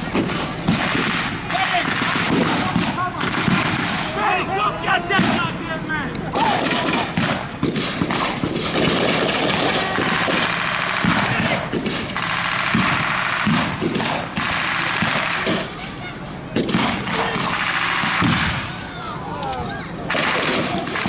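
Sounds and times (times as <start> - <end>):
machine guns and rifles firing: 0.0 - 4.5, 6.3 - 15.8, 16.6 - 18.8, 20.0 - 21.0.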